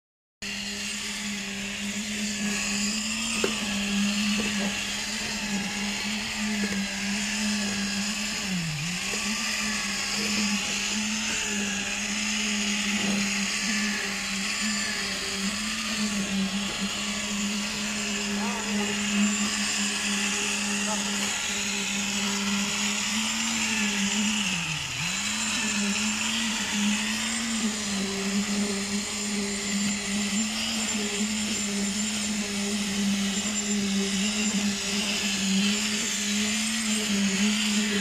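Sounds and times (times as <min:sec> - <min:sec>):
concrete vibrator humming: 0:00.4 - 0:38.0.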